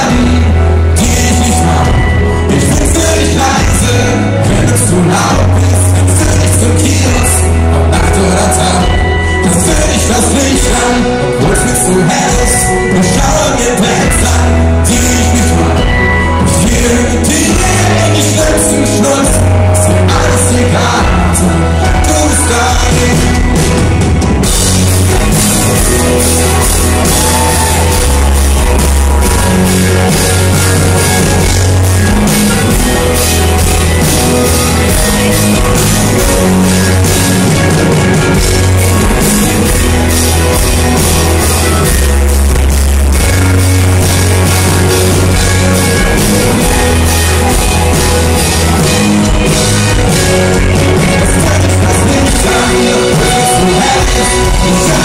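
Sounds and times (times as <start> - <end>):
booming bass line: 0.0 - 55.0
live pop-rock band: 0.0 - 55.0.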